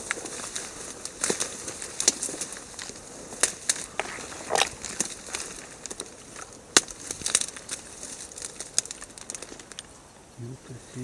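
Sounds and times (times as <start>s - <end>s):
dry reeds crackling and snapping: 0.0s - 11.0s.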